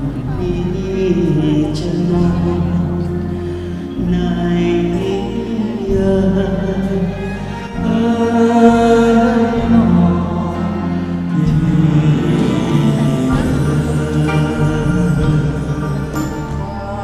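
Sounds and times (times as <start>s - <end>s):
live band accompaniment: 0.0s - 17.0s
two men singing a duet: 0.0s - 17.0s.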